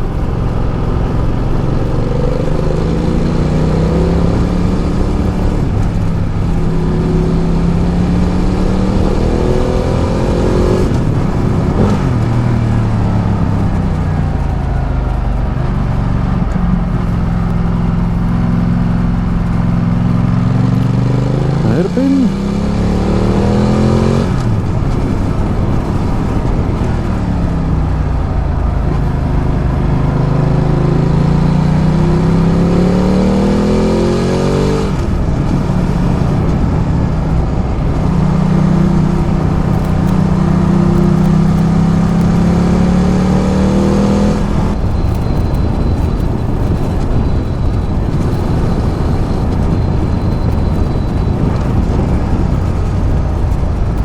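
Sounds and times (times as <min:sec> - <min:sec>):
motorcycle engine running: 0:00.0 - 0:34.0, 0:44.4 - 0:54.0.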